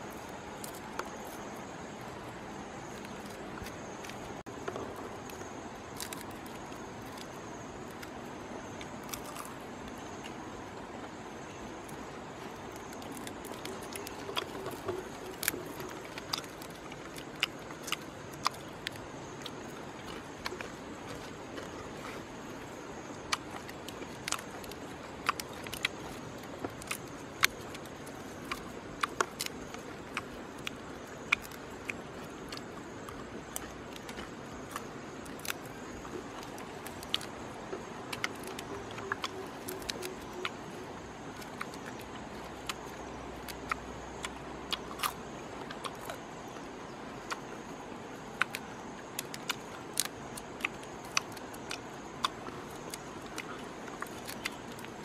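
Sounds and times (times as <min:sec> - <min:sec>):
beetle shell cracking: 0:00.0 - 0:10.4, 0:11.5 - 0:21.9, 0:22.5 - 0:46.6, 0:48.4 - 0:55.0
faint background hiss: 0:00.0 - 0:55.0.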